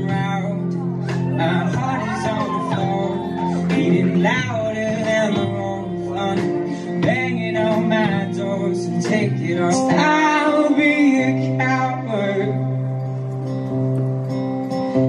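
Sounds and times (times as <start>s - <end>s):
drums: 0.0s - 12.4s
person singing: 0.0s - 13.0s
acoustic guitar: 0.0s - 15.0s
bass guitar: 0.0s - 15.0s
electric guitar: 0.0s - 15.0s.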